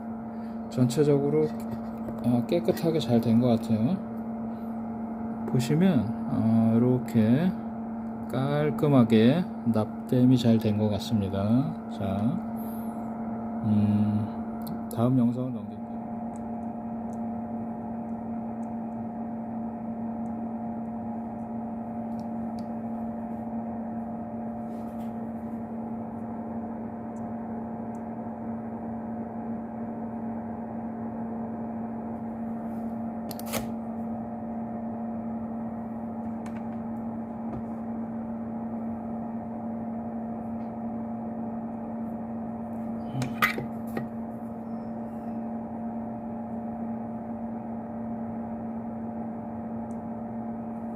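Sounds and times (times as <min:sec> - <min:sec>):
electrical hum with fan hiss: 0:00.0 - 0:50.9.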